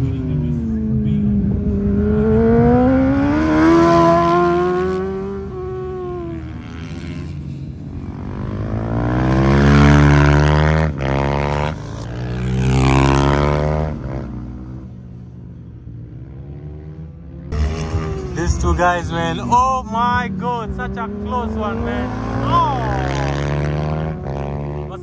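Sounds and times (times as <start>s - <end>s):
racing motorbikes passing: 0.0s - 25.0s.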